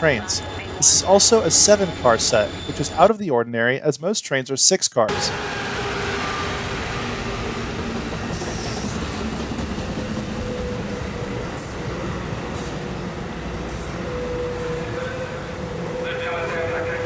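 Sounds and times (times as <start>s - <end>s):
train wheels rumbling on rails: 0.0s - 3.1s, 5.1s - 17.0s.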